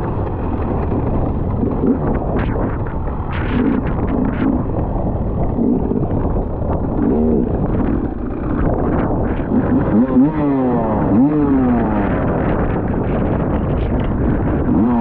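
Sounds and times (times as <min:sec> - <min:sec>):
motorcycle engine revving: 0:00.0 - 0:15.0
wind buffeting microphone: 0:00.0 - 0:15.0.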